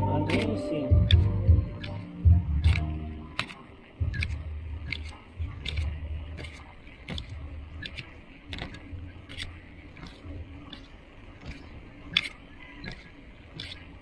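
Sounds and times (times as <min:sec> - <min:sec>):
sharp ticking from bicycle: 0:00.0 - 0:14.0.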